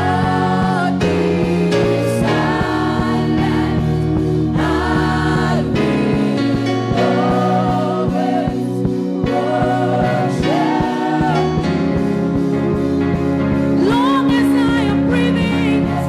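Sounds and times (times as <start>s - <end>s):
band accompaniment with beat: 0.0s - 16.0s
singers holding long notes: 0.0s - 16.0s.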